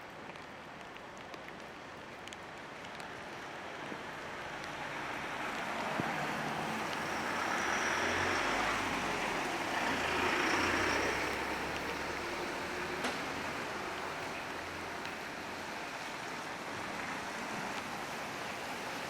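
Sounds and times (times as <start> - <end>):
tyre hiss on wet road: 0.1 - 19.0.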